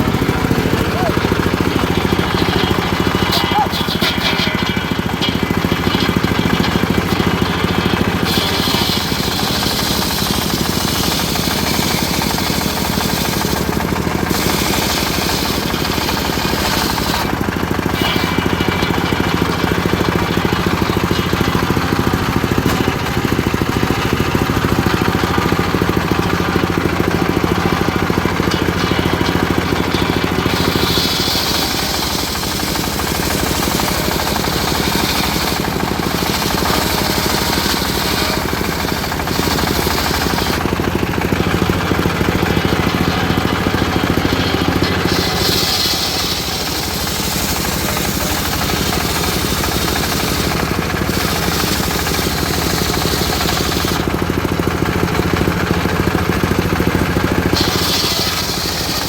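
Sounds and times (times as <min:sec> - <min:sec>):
chugging engine: 0:00.0 - 0:59.0
saw blade cutting log: 0:00.0 - 0:59.0.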